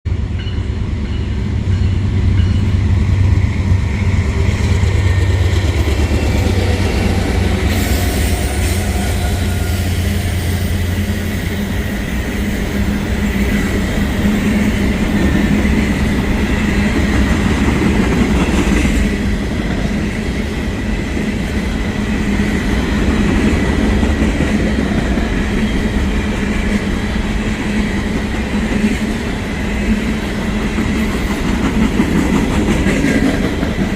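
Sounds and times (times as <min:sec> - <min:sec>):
rail cars clattering: 0:00.1 - 0:33.9.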